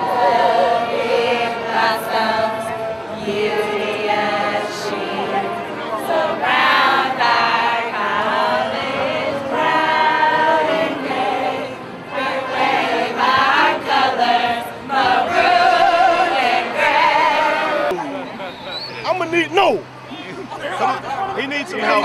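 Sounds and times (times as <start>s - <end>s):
choir singing unaccompanied: 0.0s - 18.9s, 20.1s - 22.0s.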